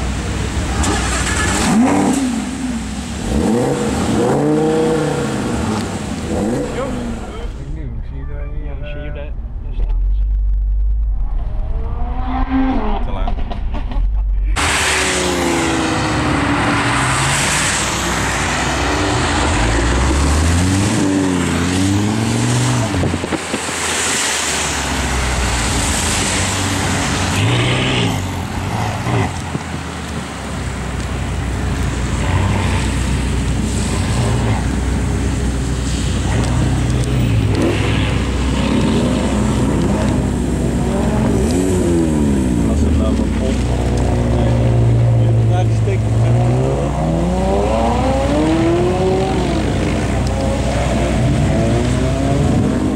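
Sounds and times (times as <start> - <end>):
car engine revving and idling: 0.0 - 52.9.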